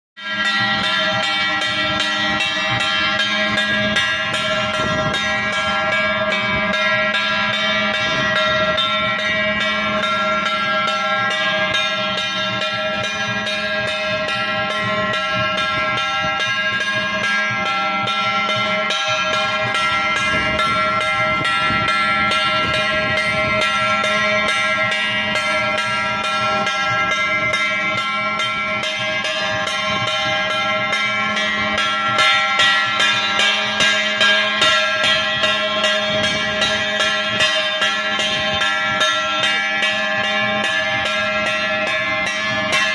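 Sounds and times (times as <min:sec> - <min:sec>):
metal bells and gongs ringing: 0:00.2 - 0:42.9
pulsing drum beat: 0:00.2 - 0:42.9.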